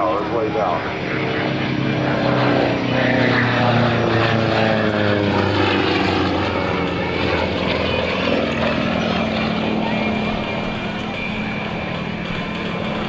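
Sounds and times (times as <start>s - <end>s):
propeller airplane engine: 0.0s - 13.0s.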